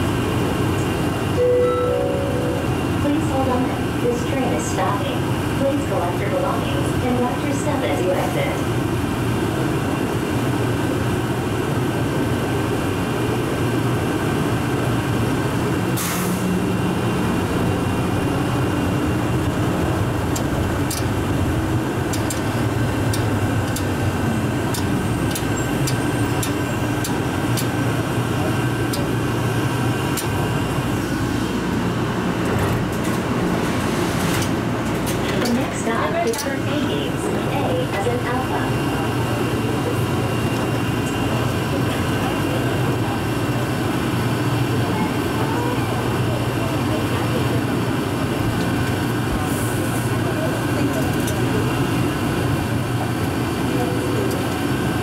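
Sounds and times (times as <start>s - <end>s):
train interior rumble and hum: 0.0s - 55.0s.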